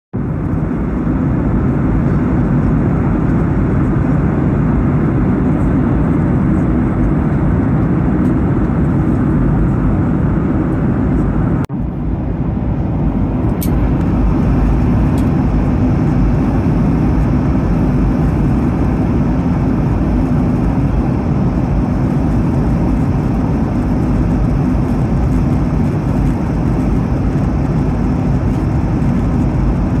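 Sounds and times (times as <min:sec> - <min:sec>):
airliner cabin engine roar: 0:00.2 - 0:30.0.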